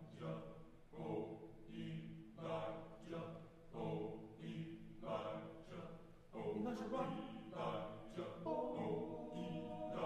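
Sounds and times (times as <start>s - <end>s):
choir singing rhythmic phrases: 0.0s - 10.0s.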